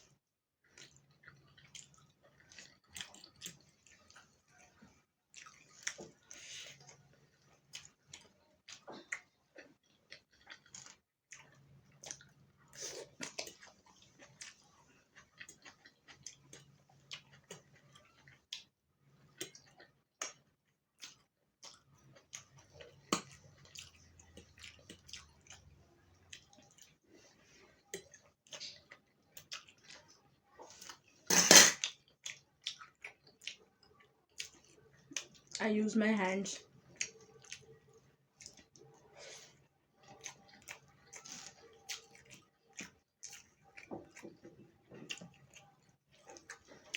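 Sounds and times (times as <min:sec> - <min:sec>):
wet chewing and mouth clicks: 0:00.0 - 0:31.2, 0:31.8 - 0:35.6, 0:36.5 - 0:46.9.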